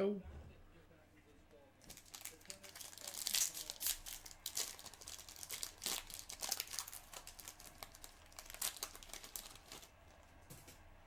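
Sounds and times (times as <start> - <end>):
card packs crinkling and rustling: 1.8 - 10.7.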